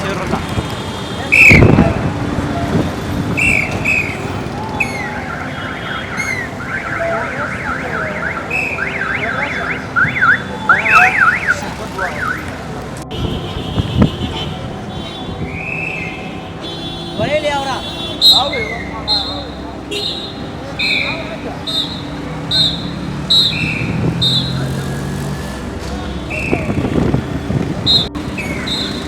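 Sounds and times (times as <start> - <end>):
street traffic: 0.0 - 29.0
car alarm chirping and warbling: 1.1 - 2.1, 2.7 - 25.6, 26.2 - 29.0.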